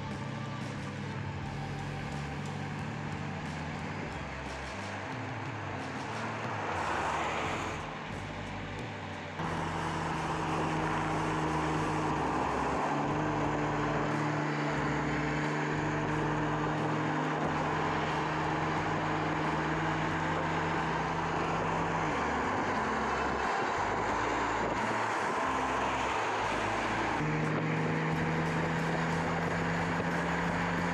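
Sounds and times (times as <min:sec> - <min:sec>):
car engine at steady pitch: 0:00.0 - 0:30.9
road noise: 0:00.0 - 0:30.9.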